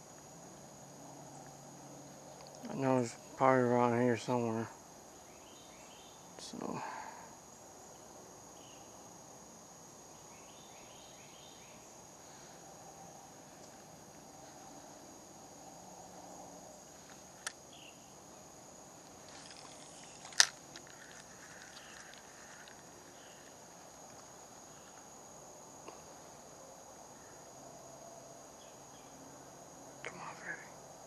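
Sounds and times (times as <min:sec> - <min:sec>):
faint outdoor ambience: 0:00.0 - 0:31.0
high insect drone: 0:00.0 - 0:31.0.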